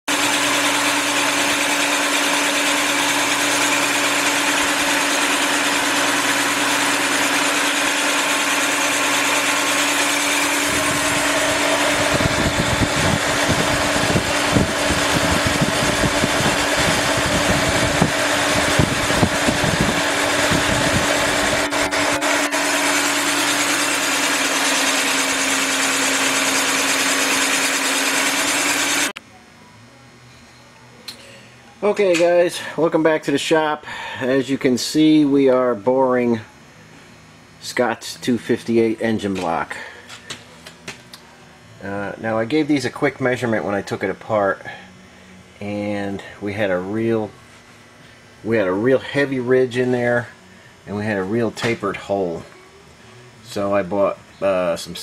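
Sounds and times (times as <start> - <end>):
boring machine hum: 0.0 - 55.0.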